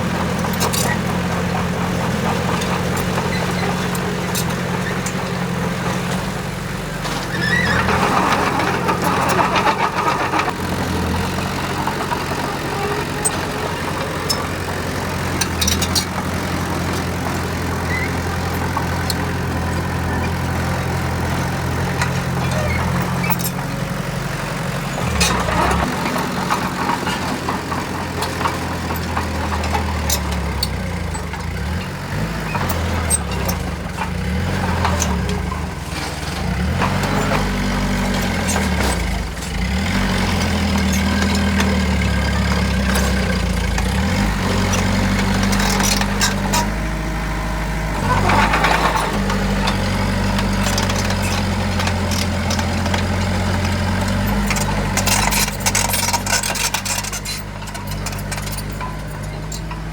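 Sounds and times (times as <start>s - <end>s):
heavy machine diesel engine running: 0.0s - 59.9s.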